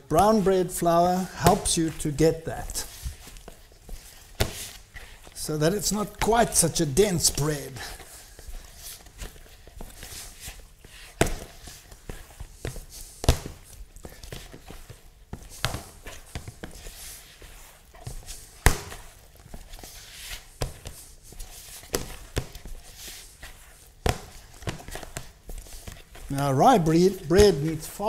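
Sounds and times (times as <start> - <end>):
hands kneading dough: 0.0 - 28.0.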